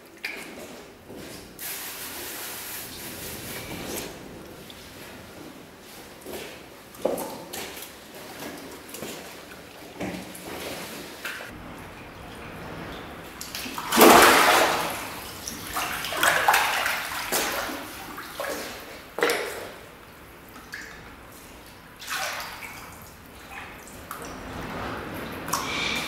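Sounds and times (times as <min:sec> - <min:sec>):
water splashing: 0:01.6 - 0:26.0.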